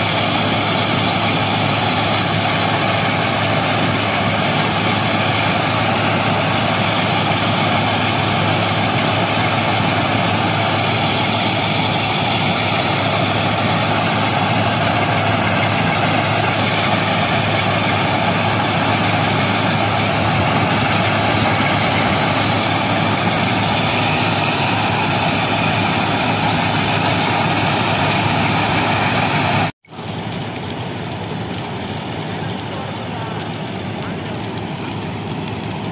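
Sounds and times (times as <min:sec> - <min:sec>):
track machine mechanical din: 0:00.0 - 0:35.9.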